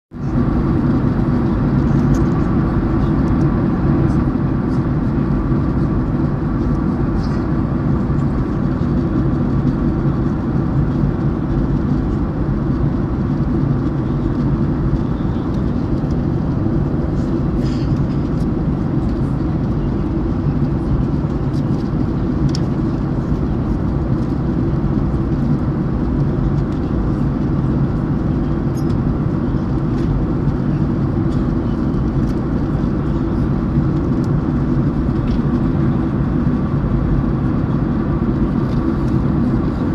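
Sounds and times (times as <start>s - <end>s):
airliner cabin engine drone: 0.1s - 39.9s.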